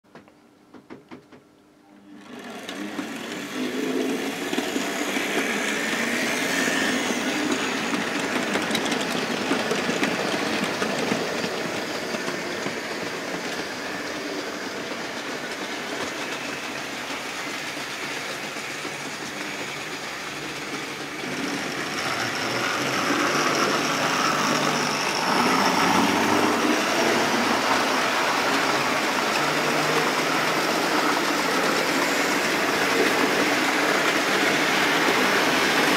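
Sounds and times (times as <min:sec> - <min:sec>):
model train motors whirring: 0:02.0 - 0:35.9.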